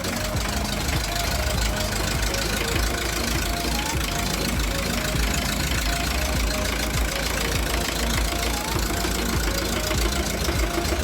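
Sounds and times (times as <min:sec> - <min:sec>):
engine idling with knocking: 0:00.0 - 0:11.0.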